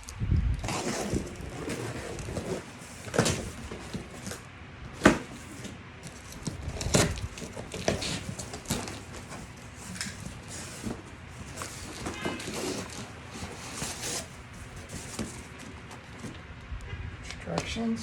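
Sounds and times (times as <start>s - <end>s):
cardboard packaging rustling: 0.0s - 16.6s.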